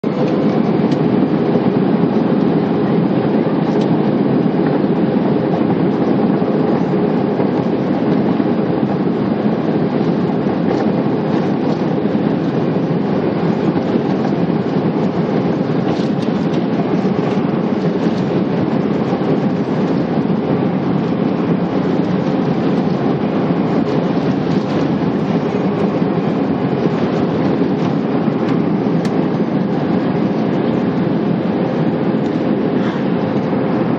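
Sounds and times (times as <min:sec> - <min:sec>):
jet engines rumbling in cabin: 0:00.0 - 0:33.9.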